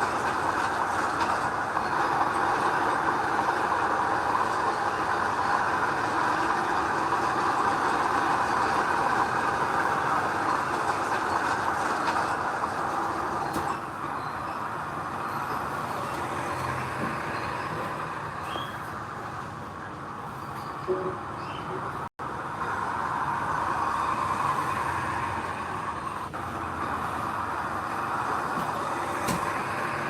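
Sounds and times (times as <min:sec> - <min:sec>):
heavy machine running: 0:00.0 - 0:30.0.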